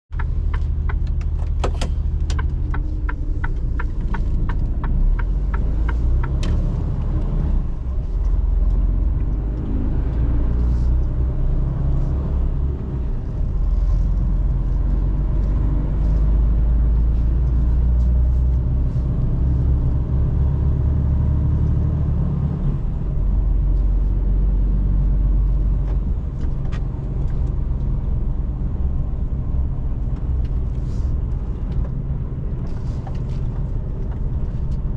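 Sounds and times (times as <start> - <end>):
diesel truck engine rumbling: 0.1 - 34.9.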